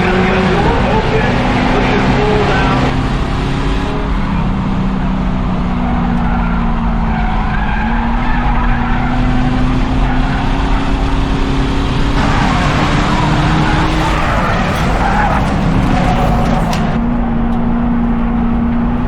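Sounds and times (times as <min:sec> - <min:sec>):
tyre and road noise: 0:00.0 - 0:17.3
race car engine: 0:00.0 - 0:19.0.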